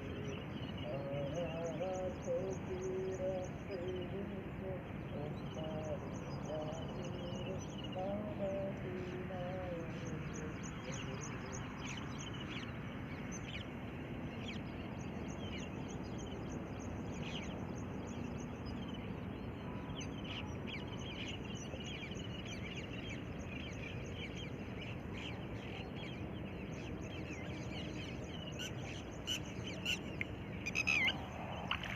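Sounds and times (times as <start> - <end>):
steady background noise: 0.0 - 31.9.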